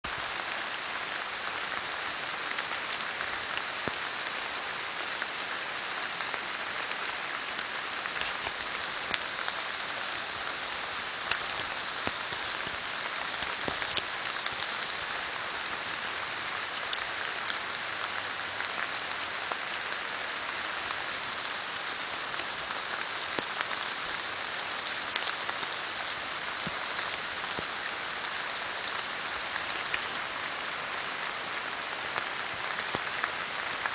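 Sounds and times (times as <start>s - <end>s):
rain-like hiss with ticks: 0.0s - 33.9s.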